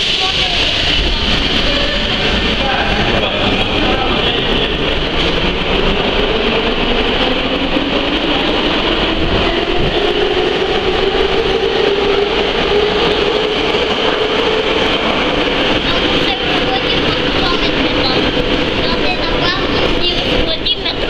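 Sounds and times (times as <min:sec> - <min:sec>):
metro train rumble: 0:00.0 - 0:21.0.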